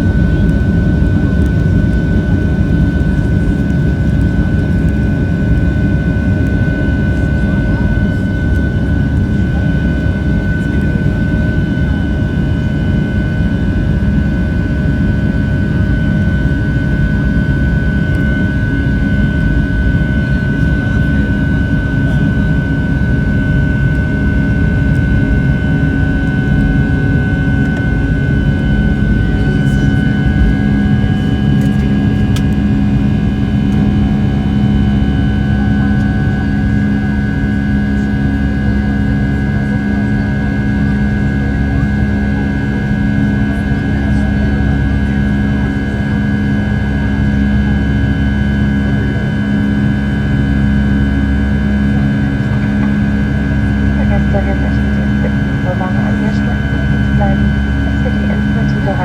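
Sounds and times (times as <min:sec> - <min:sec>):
jet engines heard from cabin: 0:00.0 - 0:59.0.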